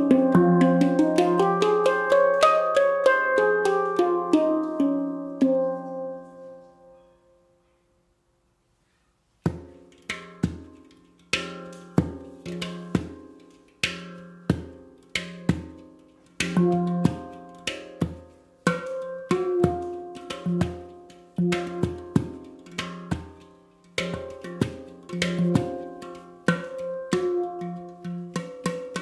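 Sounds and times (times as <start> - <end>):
handpan played by hand: 0.0 - 7.2, 9.5 - 29.0.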